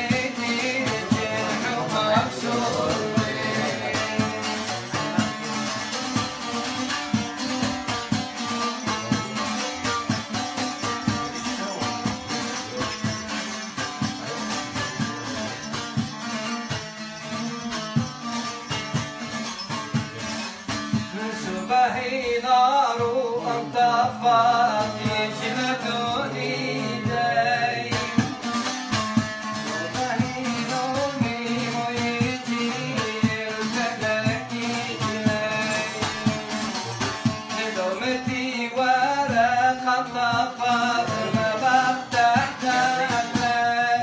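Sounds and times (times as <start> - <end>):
man singing: 0.0 - 17.4, 18.3 - 44.0
plucked long-necked lute melody: 0.0 - 44.0.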